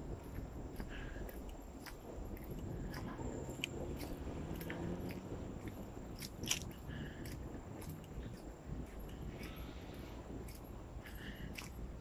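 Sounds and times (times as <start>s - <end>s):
crunching footsteps: 0.0s - 12.0s
wind and handling rumble: 0.0s - 12.0s.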